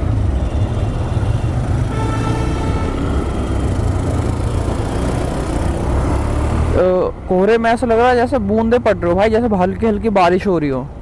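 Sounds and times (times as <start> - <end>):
motorcycle engine rumbling: 0.0 - 9.7.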